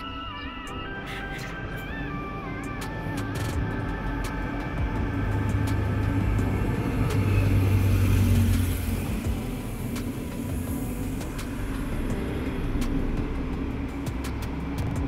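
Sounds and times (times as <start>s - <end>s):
train engine drone and rumble: 0.0s - 15.0s.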